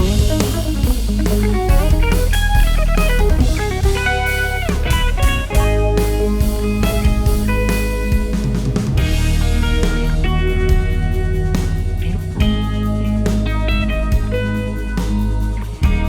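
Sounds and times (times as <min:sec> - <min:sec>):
bass and drums: 0:00.0 - 0:16.0
electric guitar melody: 0:00.0 - 0:16.0.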